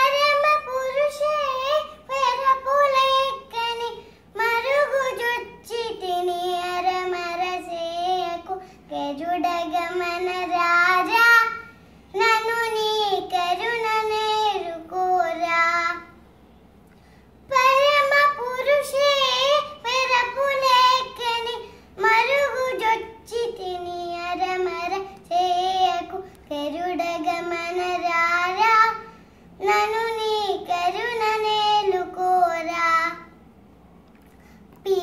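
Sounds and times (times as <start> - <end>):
girl singing unaccompanied: 0.0 - 16.2, 17.4 - 33.4, 34.8 - 35.0.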